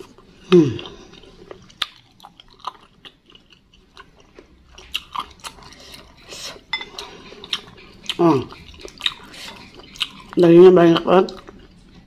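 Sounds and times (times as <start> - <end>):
wet chewing sounds: 0.0 - 12.0.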